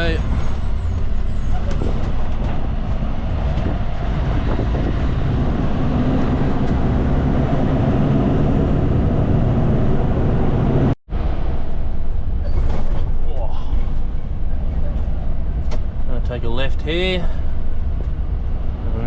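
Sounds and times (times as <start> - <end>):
diesel truck engine drone: 0.0 - 19.0
road noise: 0.0 - 19.0.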